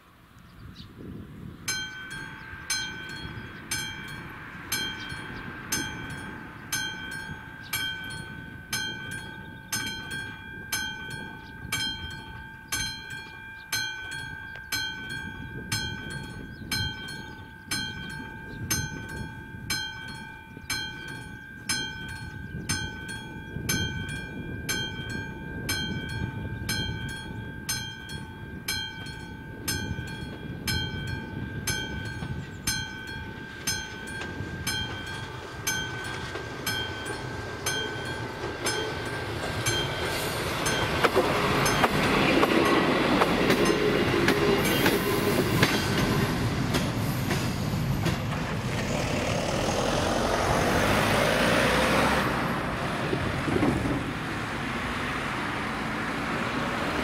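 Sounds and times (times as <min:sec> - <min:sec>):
level crossing warning bell: 0:01.7 - 0:48.3.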